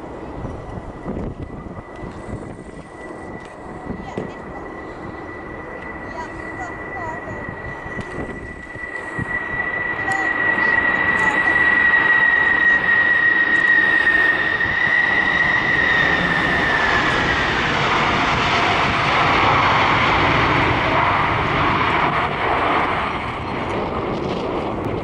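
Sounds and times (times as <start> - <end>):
jet engine whine: 0.0 - 25.0
rushing air noise: 0.0 - 25.0.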